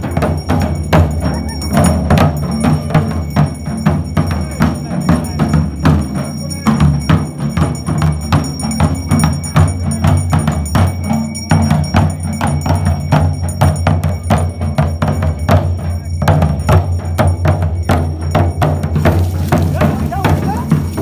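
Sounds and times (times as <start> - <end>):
dhol drums beaten with sticks: 0.0 - 21.0.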